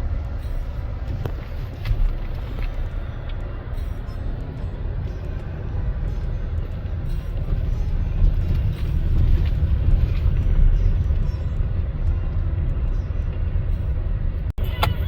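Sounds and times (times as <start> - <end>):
car tyres and engine rumbling: 0.0 - 15.0.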